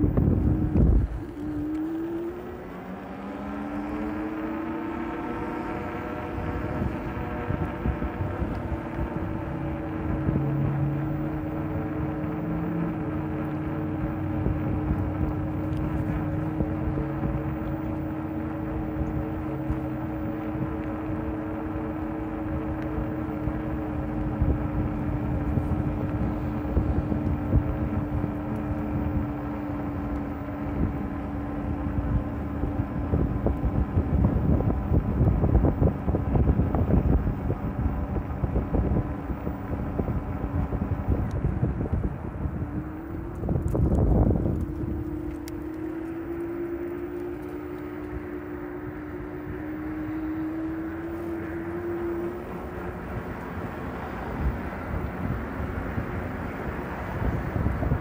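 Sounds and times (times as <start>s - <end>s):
electric bicycle motor whining: 0.0s - 58.0s
wind rushing over microphone: 0.0s - 58.0s.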